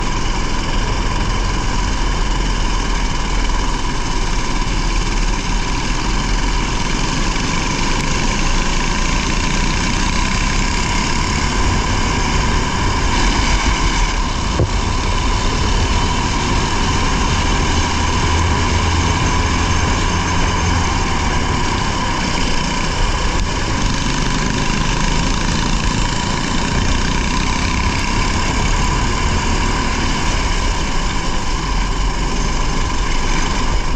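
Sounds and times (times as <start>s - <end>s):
rally car engine running: 0.0s - 33.9s.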